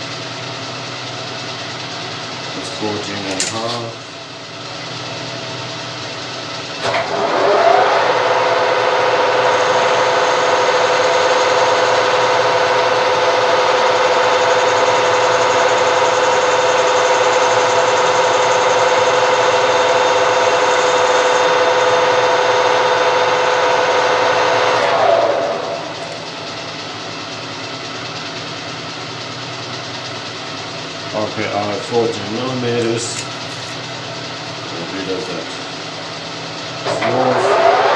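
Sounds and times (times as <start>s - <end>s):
lathe motor running: 0.2s - 37.9s.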